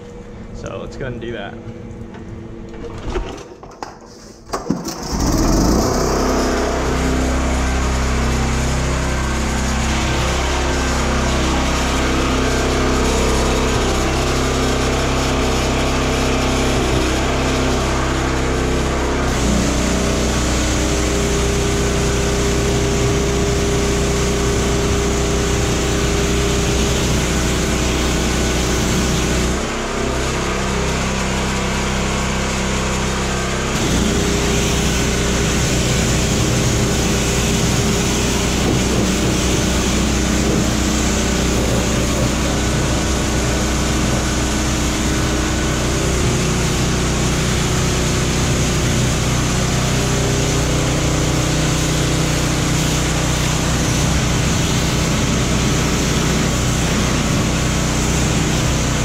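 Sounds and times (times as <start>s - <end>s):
pressure washer engine running: 4.4s - 59.0s
high-pressure water spray hissing: 5.2s - 59.0s.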